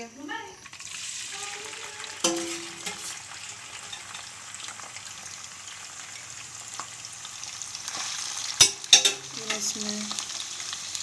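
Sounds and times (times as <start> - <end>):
meat frying in hot oil: 0.3 - 11.0.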